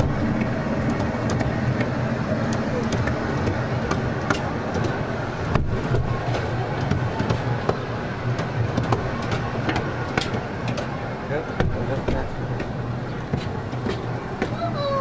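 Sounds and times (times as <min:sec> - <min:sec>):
rattling clicks from train cars: 0:00.0 - 0:15.0
train low rumble: 0:00.0 - 0:15.0.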